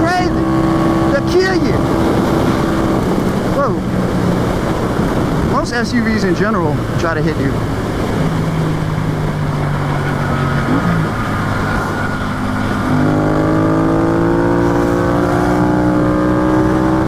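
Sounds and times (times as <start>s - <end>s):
motorcycle engine accelerating: 0.0s - 17.0s
wind rush: 0.0s - 17.0s.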